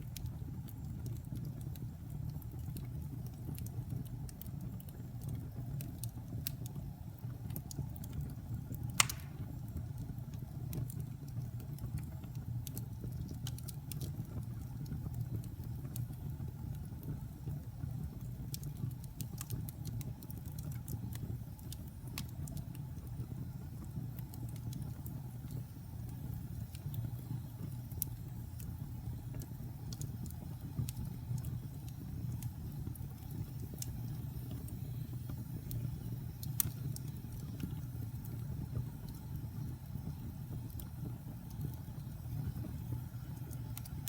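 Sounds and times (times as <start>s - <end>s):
burning wood crackling and popping: 0.0s - 44.0s
low rumble of flames: 0.0s - 44.0s.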